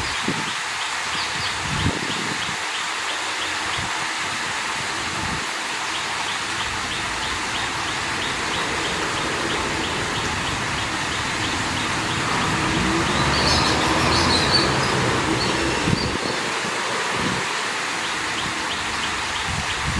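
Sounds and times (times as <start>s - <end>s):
water rushing: 0.0s - 19.9s.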